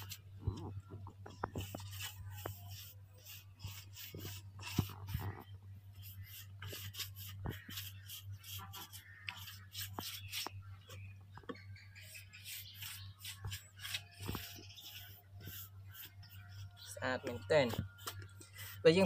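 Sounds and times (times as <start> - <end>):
paintbrush swishing on wood: 1.4 - 10.5, 12.4 - 19.0.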